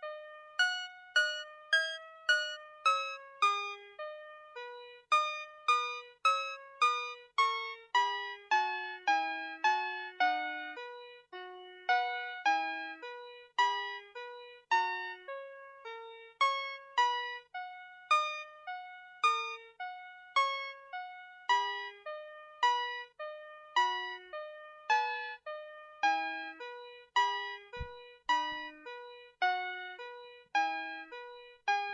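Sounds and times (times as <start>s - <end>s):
toy playing electronic melody: 0.0s - 31.9s.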